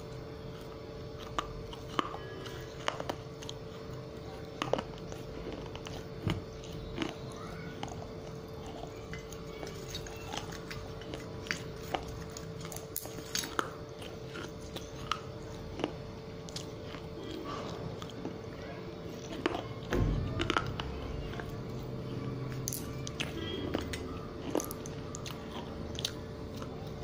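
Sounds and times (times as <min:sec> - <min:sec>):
chewing crunchy clay: 0:00.0 - 0:27.0
faint steady hum: 0:00.0 - 0:27.0.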